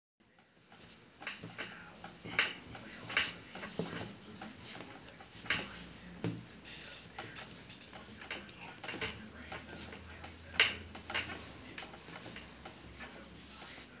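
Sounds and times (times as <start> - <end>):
dough kneaded by hand: 0.2 - 14.0.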